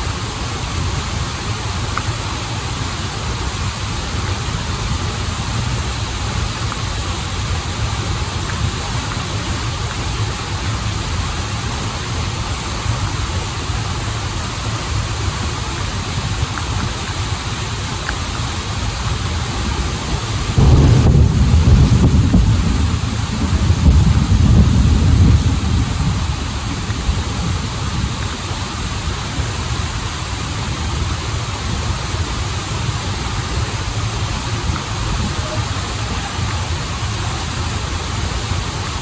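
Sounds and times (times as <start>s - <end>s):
waterfall and stream rushing: 0.0s - 39.0s.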